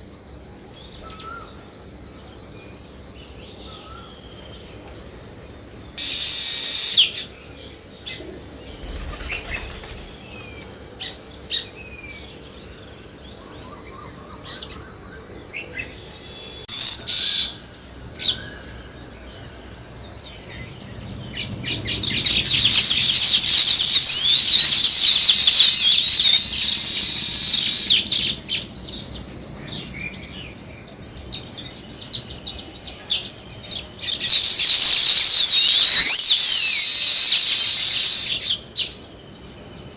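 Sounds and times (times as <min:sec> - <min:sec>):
birds chirping and chattering: 0:00.0 - 0:39.9.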